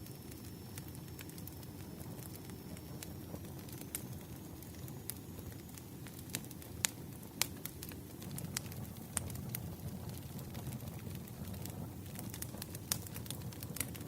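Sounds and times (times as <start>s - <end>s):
campfire burning and crackling: 0.0s - 14.0s.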